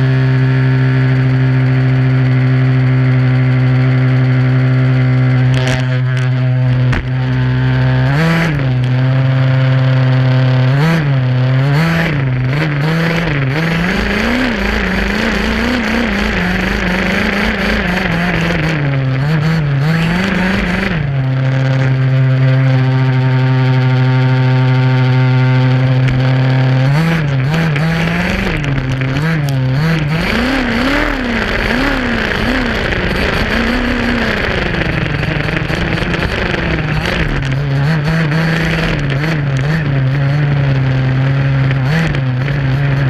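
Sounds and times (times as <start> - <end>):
rc buggy two-stroke engine revving: 0.0 - 43.0.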